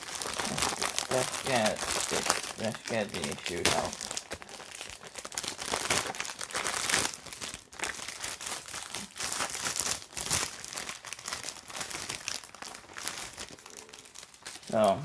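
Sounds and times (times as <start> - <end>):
packaging tearing: 0.0 - 14.9
packaging crinkling and rustling: 0.0 - 15.0.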